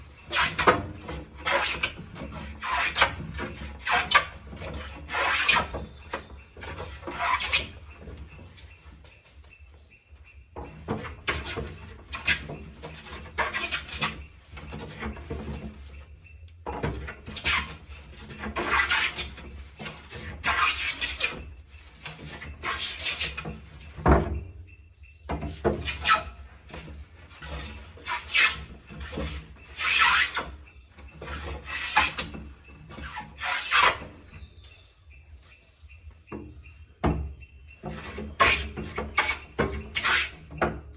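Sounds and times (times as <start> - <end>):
rasping strokes on wood: 0.0 - 8.7, 10.7 - 16.0, 16.9 - 24.0, 25.5 - 34.5, 37.8 - 40.6.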